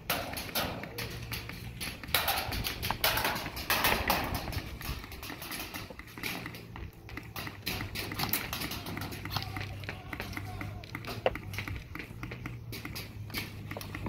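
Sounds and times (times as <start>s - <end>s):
airsoft guns firing: 0.0s - 14.0s
pellets smacking bunkers: 0.0s - 14.0s.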